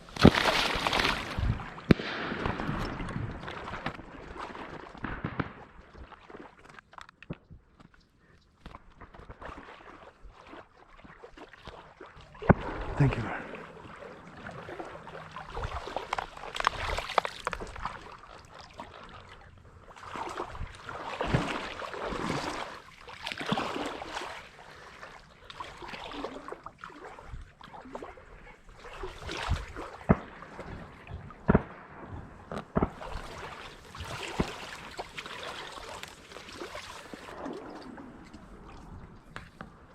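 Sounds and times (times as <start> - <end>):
water sloshing and splashing: 0.0 - 39.9.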